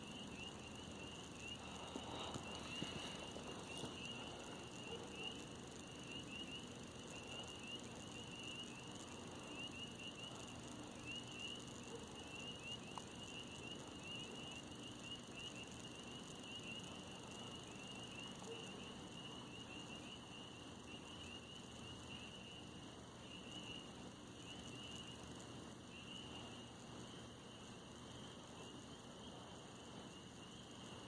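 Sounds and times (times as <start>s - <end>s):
insects trilling: 0.0s - 31.0s
low background hiss: 0.0s - 31.0s.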